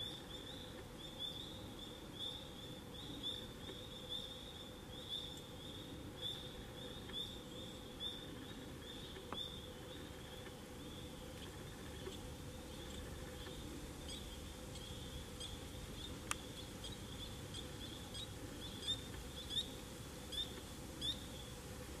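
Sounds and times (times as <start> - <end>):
tree frogs chirping: 0.0 - 21.9.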